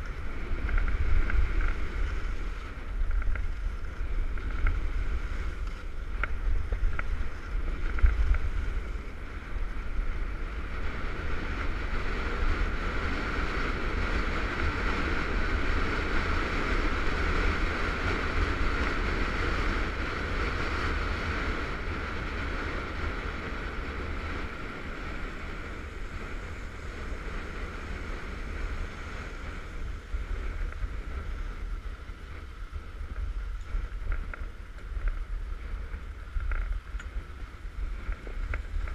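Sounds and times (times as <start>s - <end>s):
skis scraping on packed snow: 0.0s - 38.9s
wind buffeting microphone: 0.0s - 38.9s.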